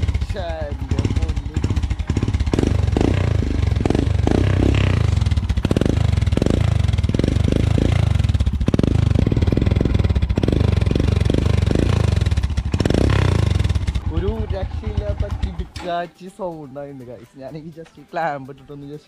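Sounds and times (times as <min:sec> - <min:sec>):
motorcycle engine thumping: 0:00.0 - 0:16.0.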